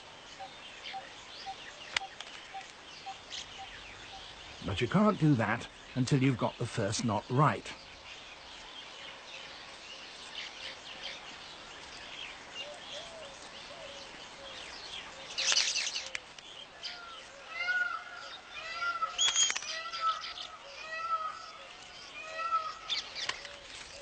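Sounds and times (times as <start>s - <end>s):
birds chirping and chattering: 0.0s - 24.0s.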